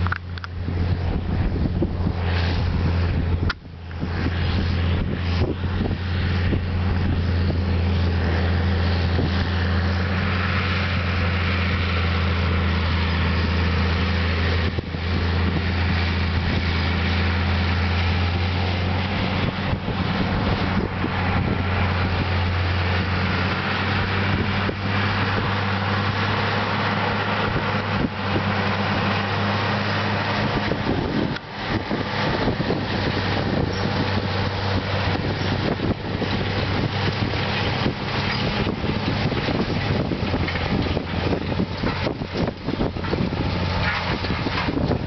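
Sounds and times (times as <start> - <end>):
tractor diesel engine drone: 0.0 - 45.0.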